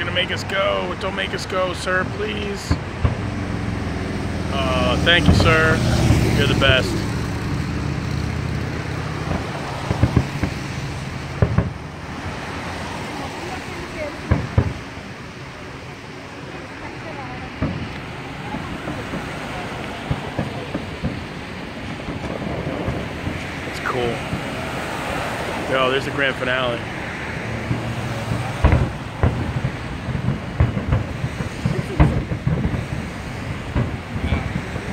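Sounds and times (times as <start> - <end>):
firework bangs: 0.0 - 34.9.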